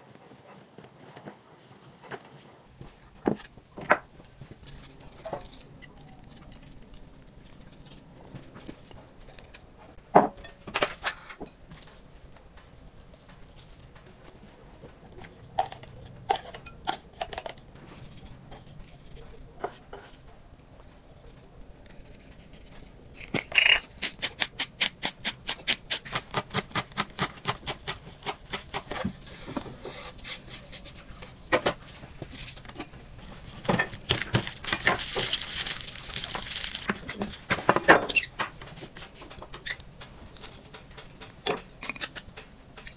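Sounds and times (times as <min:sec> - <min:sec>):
garlic skins crackling: 0:02.8 - 0:10.0, 0:10.6 - 0:42.9.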